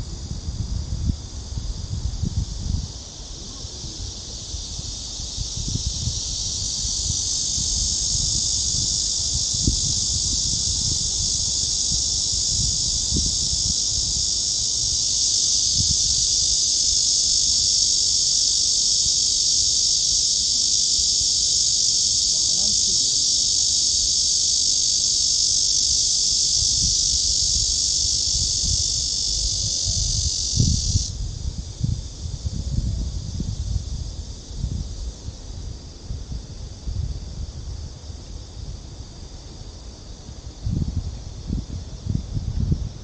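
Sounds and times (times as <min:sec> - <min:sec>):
cicadas buzzing: 0:00.0 - 0:43.0.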